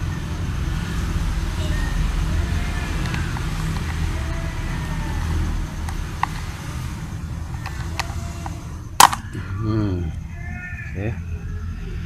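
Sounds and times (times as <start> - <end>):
motorbike engines passing: 0.0 - 12.0
road traffic: 0.0 - 12.0.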